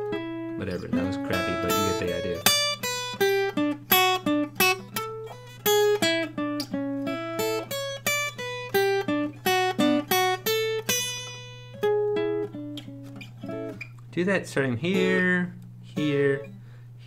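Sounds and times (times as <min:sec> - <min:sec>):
acoustic guitar notes plucked: 0:00.0 - 0:16.8.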